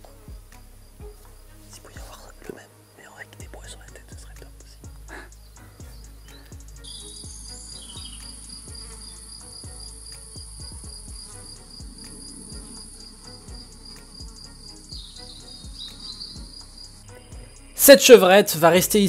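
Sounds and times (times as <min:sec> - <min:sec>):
soft low thumps: 0:00.0 - 0:02.6, 0:03.4 - 0:17.7
insects trilling: 0:00.0 - 0:19.0.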